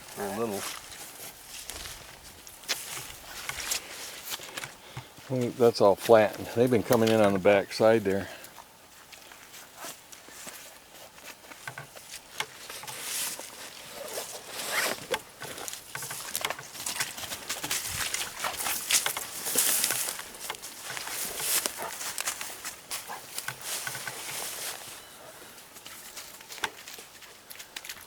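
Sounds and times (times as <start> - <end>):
footsteps crunching through grass: 0.0 - 28.0.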